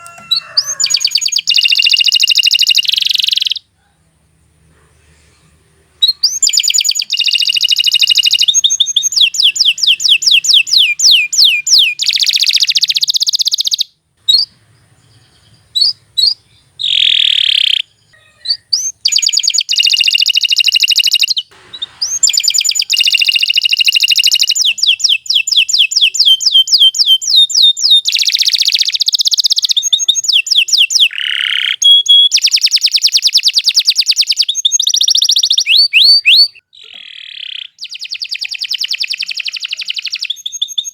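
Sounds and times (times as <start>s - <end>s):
canary singing trills: 0.0s - 3.7s, 6.0s - 40.9s.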